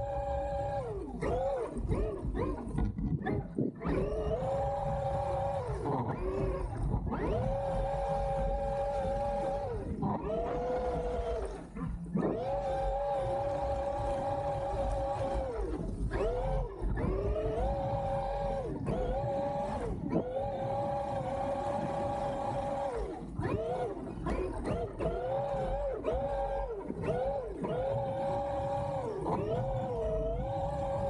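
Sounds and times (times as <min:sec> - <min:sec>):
electric motor whining: 0:00.0 - 0:31.0.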